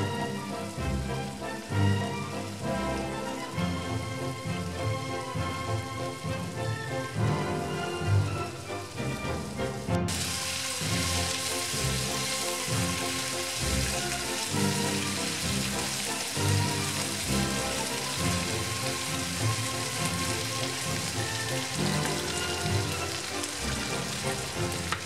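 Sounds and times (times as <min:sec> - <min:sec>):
background music: 0:00.0 - 0:25.0
food sizzling in a frying pan: 0:00.0 - 0:25.0.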